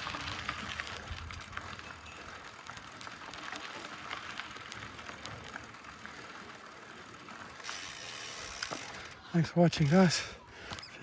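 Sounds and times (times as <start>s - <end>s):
bike clicks and rattles: 0.0s - 11.0s
bike tyres on dirt trail: 0.0s - 11.0s.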